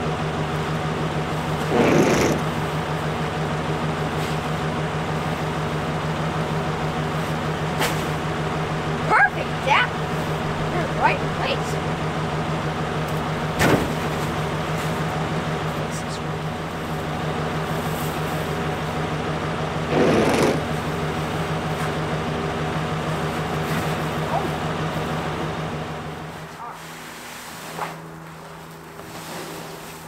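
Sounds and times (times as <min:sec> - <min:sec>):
pickup truck engine idling: 0:00.0 - 0:26.5.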